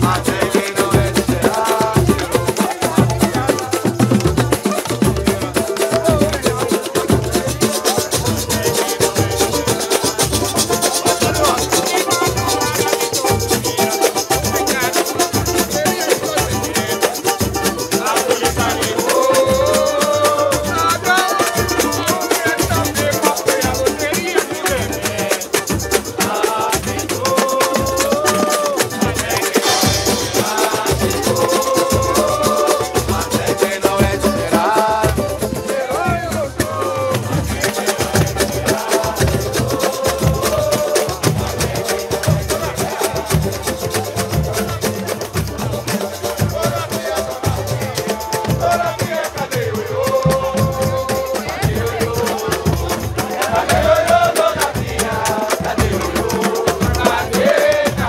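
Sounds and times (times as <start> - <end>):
banjo strumming: 0.0 - 58.0
hand percussion with jingles: 0.0 - 58.0
voices singing: 0.0 - 58.0.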